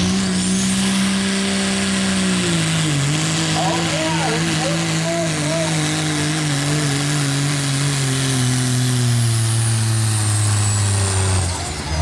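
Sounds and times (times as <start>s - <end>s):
diesel engine running under load: 0.0s - 12.0s
high turbo whine: 0.0s - 12.0s.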